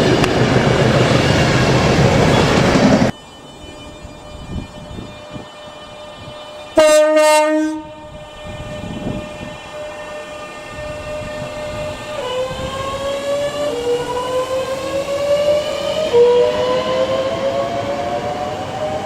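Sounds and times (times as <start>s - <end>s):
train traction motor whine: 0.0s - 19.0s.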